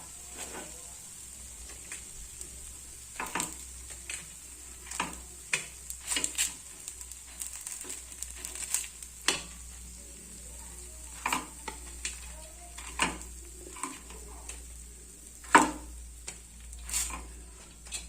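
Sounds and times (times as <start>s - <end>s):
oil sizzling in pan: 0.0s - 18.0s.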